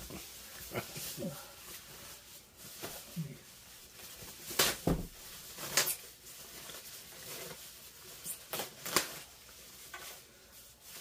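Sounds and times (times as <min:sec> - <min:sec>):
packing wrap rustling and crinkling: 0:00.0 - 0:11.0.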